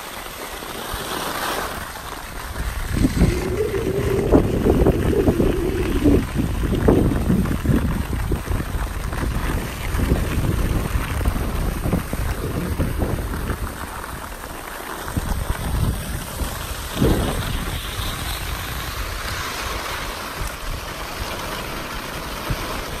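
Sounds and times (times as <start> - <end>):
skis sliding over snow: 0.0 - 23.0
wind buffeting microphone: 1.8 - 23.0.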